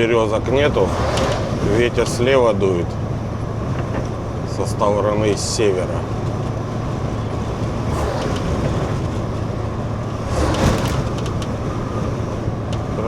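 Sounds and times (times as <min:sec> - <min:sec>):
road and wind noise: 0:00.0 - 0:13.0
truck engine droning: 0:00.0 - 0:13.0.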